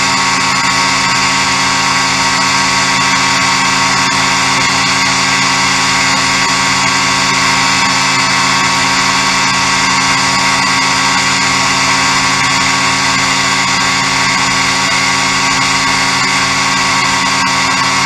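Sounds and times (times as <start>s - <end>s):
ultralight aircraft engine drone: 0.0s - 18.0s.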